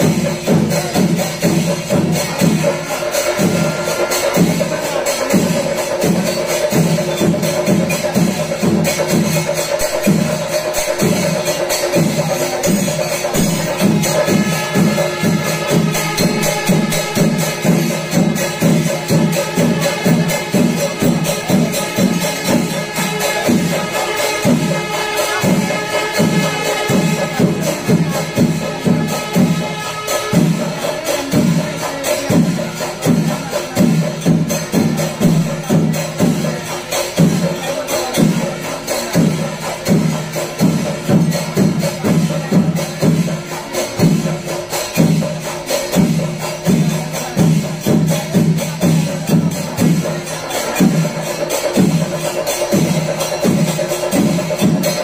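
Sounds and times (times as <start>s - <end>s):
drums striking a steady pulse: 0.0s - 55.0s
small cymbals clashing: 0.0s - 55.0s.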